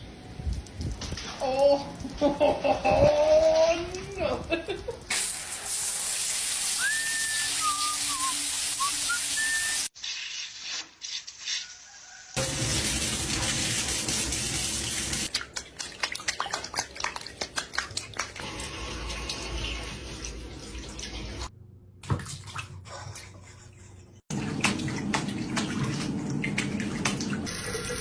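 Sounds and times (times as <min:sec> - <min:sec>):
water running and splashing: 0:00.0 - 0:11.6, 0:12.4 - 0:23.5, 0:24.3 - 0:27.9.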